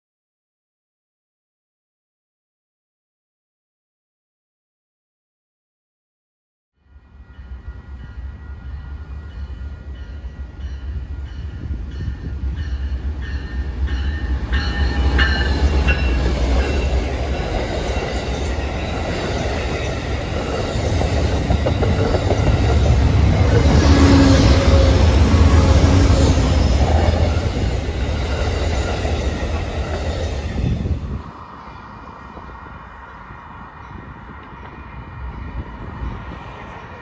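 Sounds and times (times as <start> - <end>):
train cars rolling on rails: 7.0 - 37.0.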